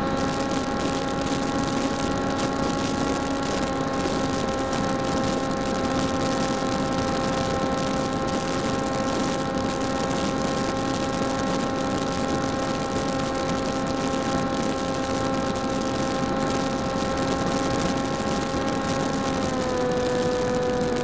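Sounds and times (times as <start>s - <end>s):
electric propeller motor whine: 0.0s - 21.0s.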